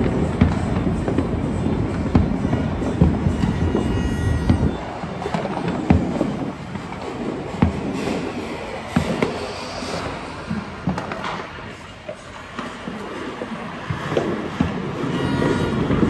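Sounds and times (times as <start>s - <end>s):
firecrackers crackling: 0.0s - 16.0s
firework bangs: 0.0s - 16.0s.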